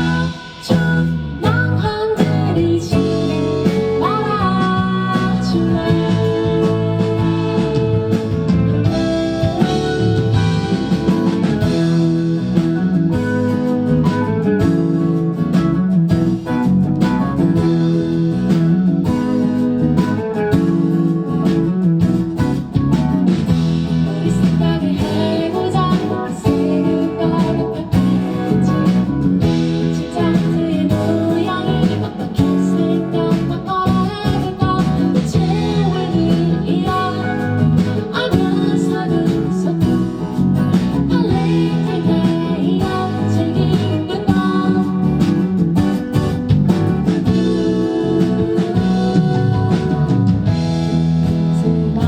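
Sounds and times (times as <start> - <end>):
live band music: 0.0 - 52.0
strummed acoustic guitar: 0.0 - 52.0.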